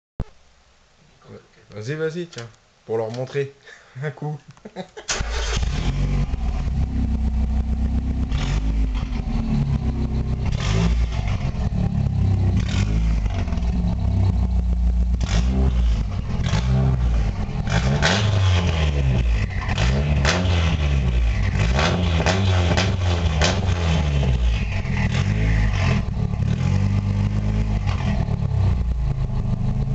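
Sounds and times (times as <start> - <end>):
car engine idling and revving: 5.2 - 29.9.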